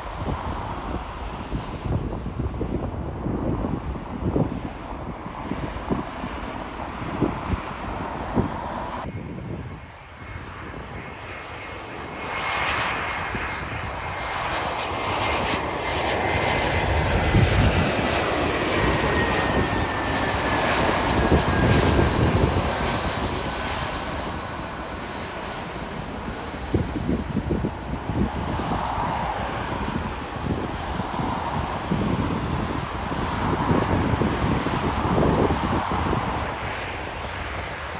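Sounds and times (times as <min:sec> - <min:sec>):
airplane passing close by: 0:00.0 - 0:37.9.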